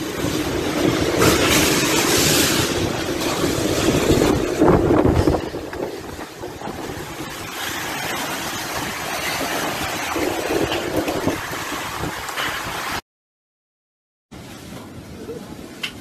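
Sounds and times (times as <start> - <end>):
hiss of wind-driven rain: 0.0 - 13.0, 14.4 - 16.0
wind gusts buffeting microphone: 0.0 - 13.0.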